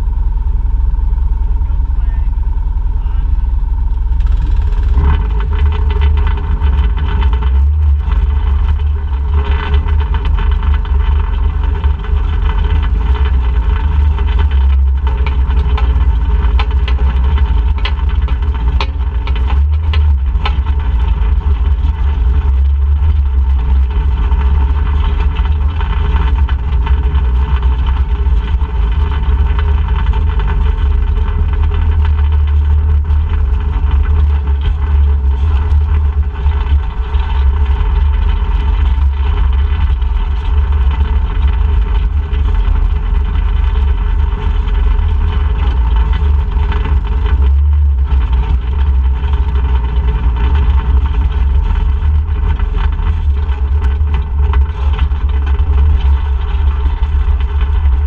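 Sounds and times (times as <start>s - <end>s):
heavy low rumble: 0.0s - 58.0s
off-road vehicle engine running: 0.0s - 58.0s.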